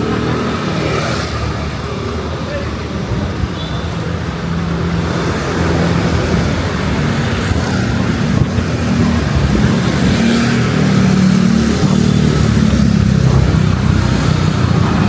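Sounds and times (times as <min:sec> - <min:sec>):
car and motorbike engines: 0:00.0 - 0:15.0.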